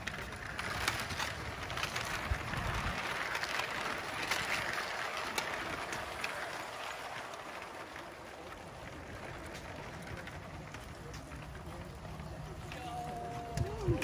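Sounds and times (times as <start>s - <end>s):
toy train motor whir: 0.0s - 12.2s
wheels clicking on track: 0.0s - 14.0s.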